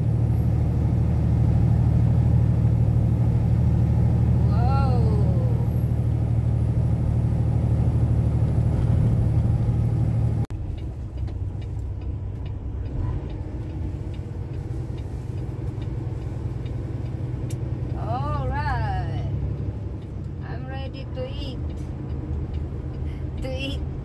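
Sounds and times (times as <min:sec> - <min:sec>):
truck engine rumble: 0:00.0 - 0:24.0.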